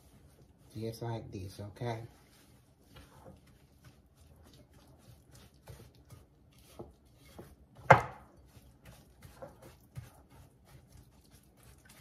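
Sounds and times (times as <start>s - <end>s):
spatula scraping glass bowl: 2.0s - 12.0s.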